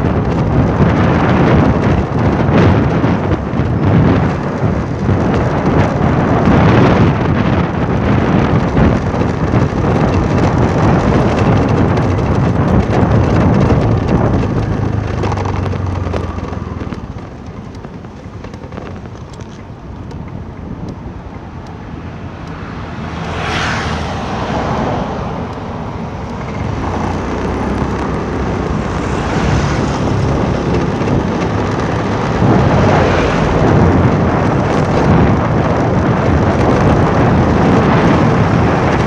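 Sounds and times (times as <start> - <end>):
road and engine noise: 0.0 - 39.0
wind buffeting microphone: 0.0 - 39.0.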